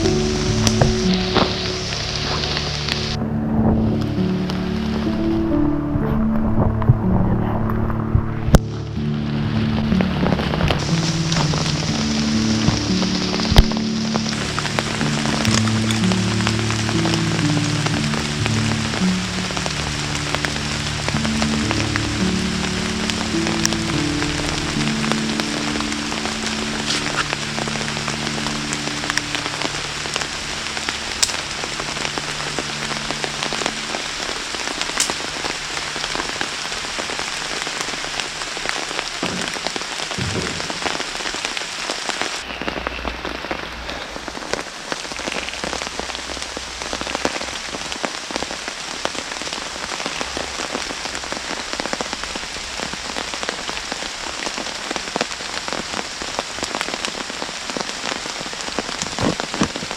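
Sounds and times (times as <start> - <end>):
rain falling in a forest: 0.0 - 59.9.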